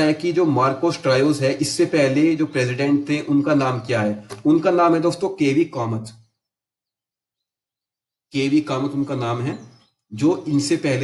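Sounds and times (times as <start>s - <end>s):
man speaking: 0.0s - 6.2s, 8.3s - 11.0s.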